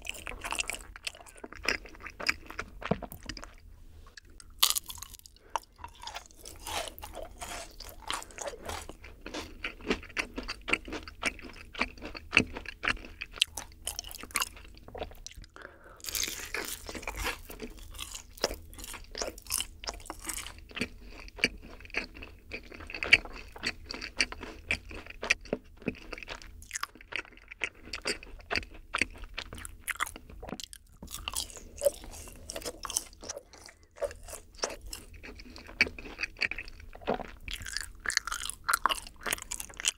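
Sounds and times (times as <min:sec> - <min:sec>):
sticky chewing: 0:00.0 - 0:39.9.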